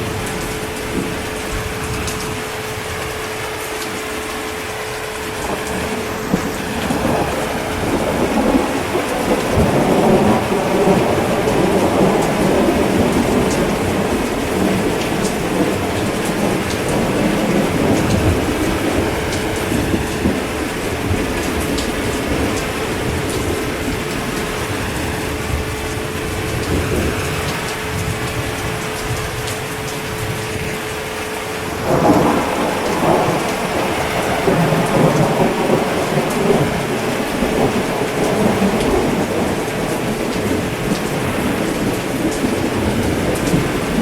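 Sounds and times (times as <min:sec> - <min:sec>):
steady rain: 0:00.0 - 0:44.0
rolling thunder: 0:04.6 - 0:44.0.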